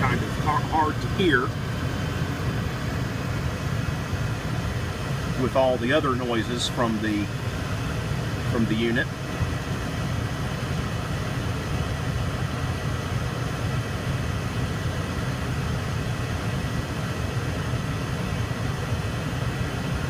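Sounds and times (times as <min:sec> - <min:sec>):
furnace low rumble and whir: 0:00.0 - 0:20.0.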